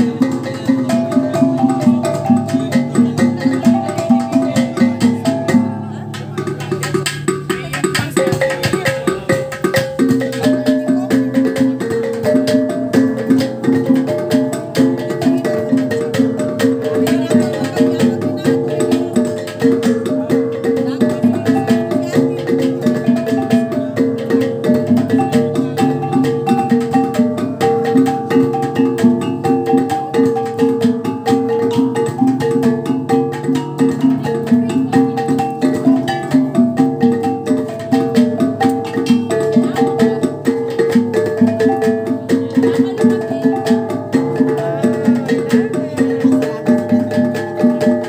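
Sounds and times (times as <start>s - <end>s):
goblet drum beat: 0.0s - 48.0s
large hanging gongs: 0.0s - 48.0s.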